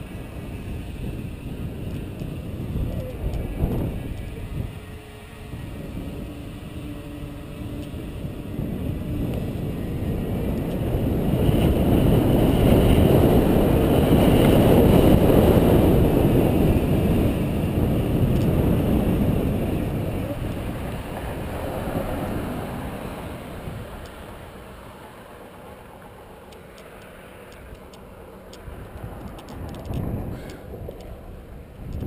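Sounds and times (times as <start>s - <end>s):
bike tyres rolling on asphalt: 0.0s - 32.0s
wind rushing over microphone: 0.0s - 32.0s.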